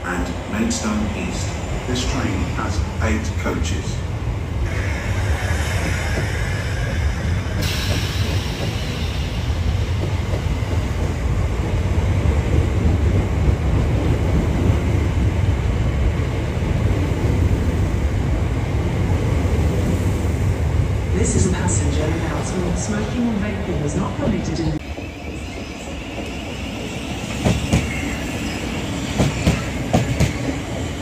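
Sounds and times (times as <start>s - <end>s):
train rumbling through station: 0.0s - 31.0s.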